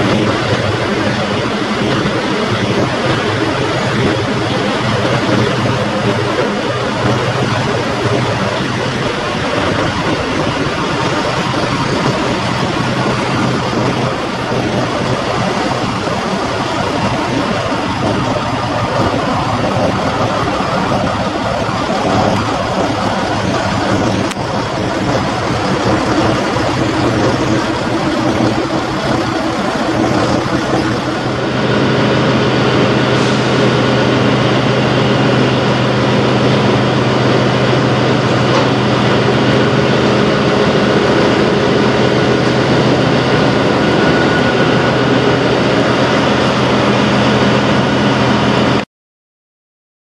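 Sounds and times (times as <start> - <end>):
diesel truck engine idling: 0.0 - 48.4.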